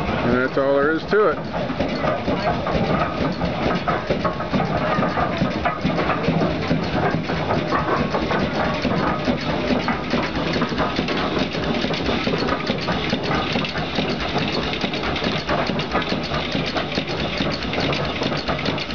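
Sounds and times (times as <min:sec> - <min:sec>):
steam engine running: 0:00.0 - 0:18.9.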